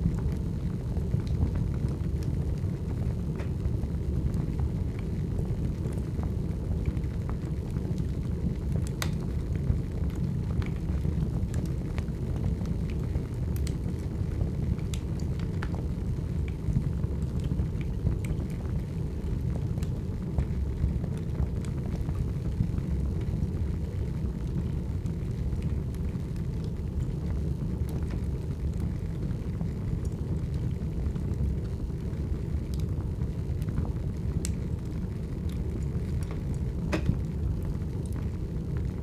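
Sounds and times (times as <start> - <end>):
fire crackling and popping: 0.0 - 39.0
fire roaring: 0.0 - 39.0.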